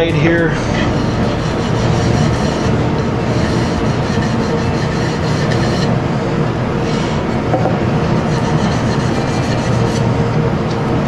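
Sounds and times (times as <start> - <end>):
hand rubbing wood: 0.0 - 6.0, 6.7 - 10.2
loud rushing noise: 0.0 - 11.0.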